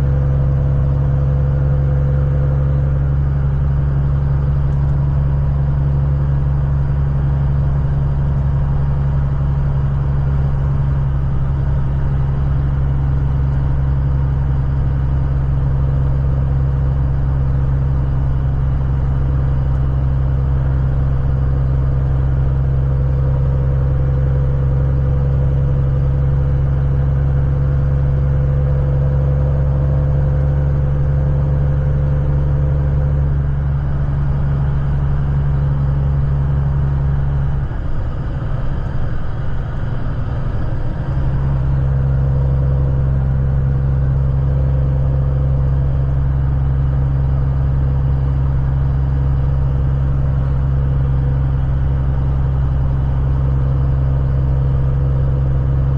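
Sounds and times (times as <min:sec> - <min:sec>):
road rumble: 0:00.0 - 0:55.9
truck engine drone: 0:00.0 - 0:55.9.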